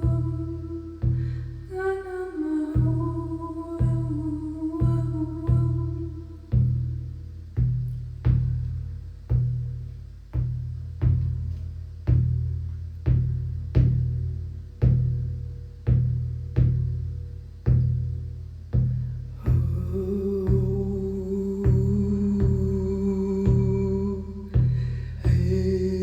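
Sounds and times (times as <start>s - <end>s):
hand drum beats: 0.0s - 1.4s, 2.8s - 26.0s.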